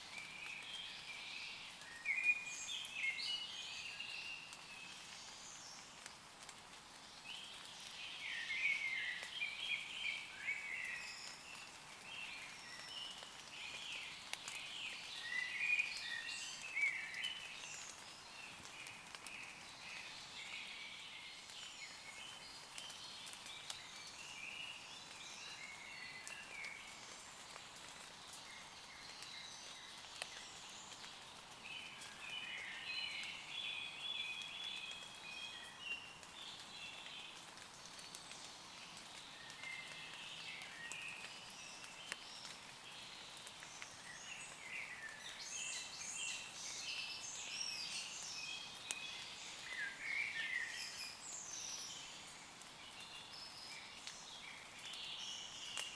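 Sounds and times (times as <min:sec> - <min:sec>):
birds singing in chorus: 0:00.0 - 0:06.0, 0:07.0 - 0:55.9
rain dripping on leaves: 0:00.0 - 0:55.9.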